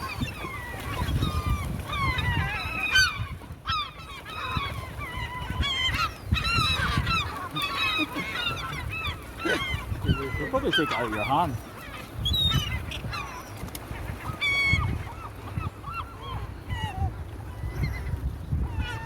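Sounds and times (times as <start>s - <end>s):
gulls squawking: 0.0s - 19.0s.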